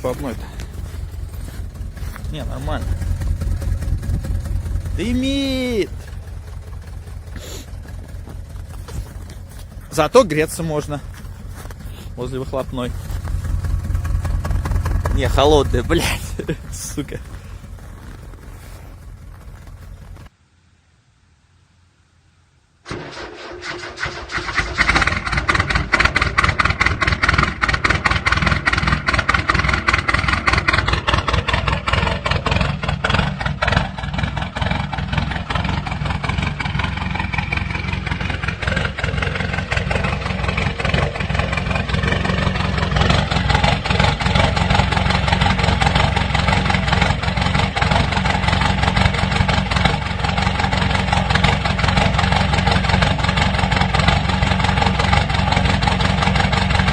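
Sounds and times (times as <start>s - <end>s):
diesel engine cranking and clattering: 0.0s - 20.3s, 22.9s - 56.9s.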